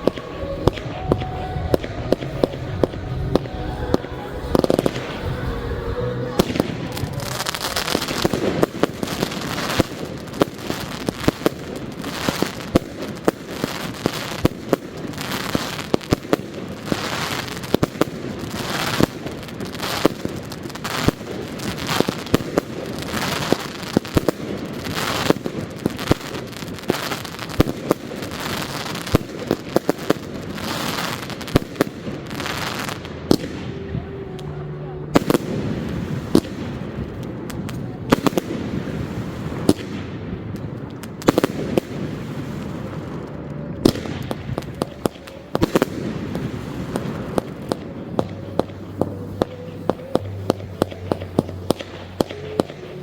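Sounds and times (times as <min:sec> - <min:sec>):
fireworks bangs: 0:00.0 - 0:53.0
fireworks crackle and hiss: 0:00.0 - 0:53.0.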